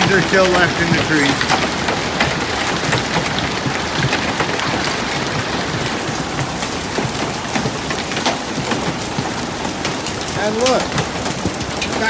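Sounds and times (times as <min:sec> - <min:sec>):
hailstones striking surfaces: 0:00.0 - 0:12.0
rain pelting down: 0:00.0 - 0:12.0.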